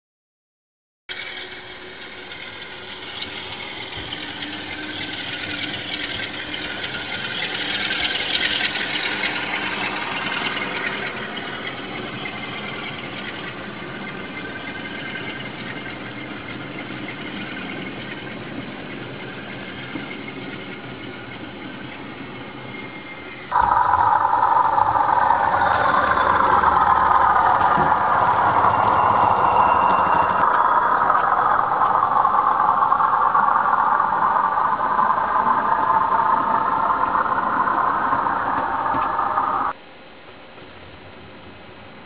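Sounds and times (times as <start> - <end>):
model train rolling on rails: 1.1 - 39.7.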